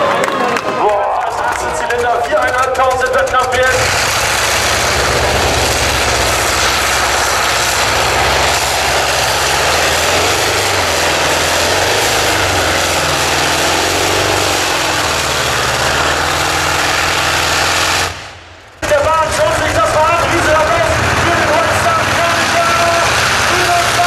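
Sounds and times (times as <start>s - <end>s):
radial aircraft engine running hard: 0.0s - 24.0s.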